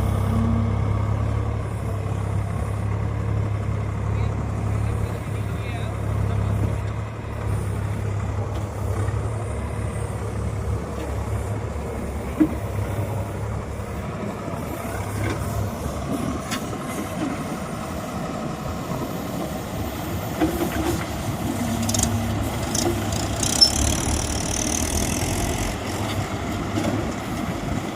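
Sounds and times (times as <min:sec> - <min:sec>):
tractor diesel engine idling: 0:00.0 - 0:27.9.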